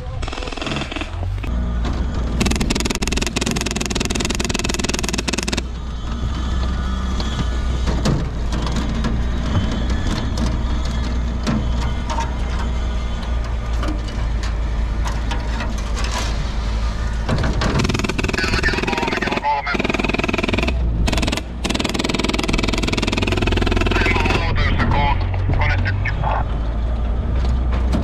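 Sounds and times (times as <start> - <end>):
engine low rumble: 0.0 - 28.0.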